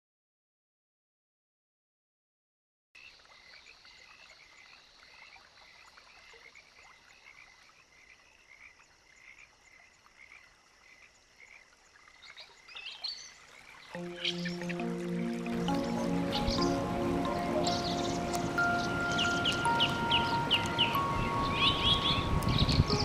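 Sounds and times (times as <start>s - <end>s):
frogs calling: 3.0s - 23.0s.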